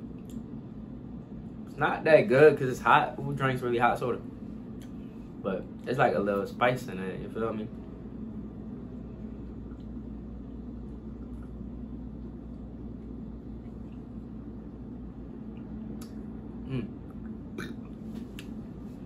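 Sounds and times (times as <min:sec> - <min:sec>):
indoor appliance hum: 0:00.0 - 0:19.0.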